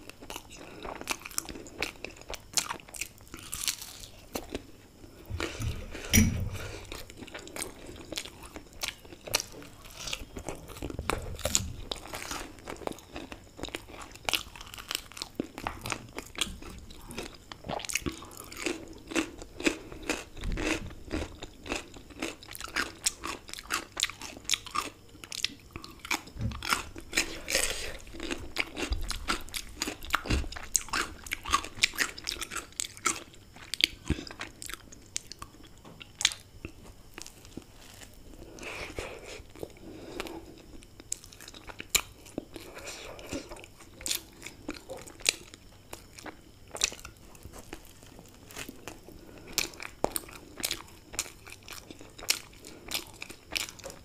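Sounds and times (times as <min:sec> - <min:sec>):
chewing crunchy pastry: 0:00.0 - 0:54.0.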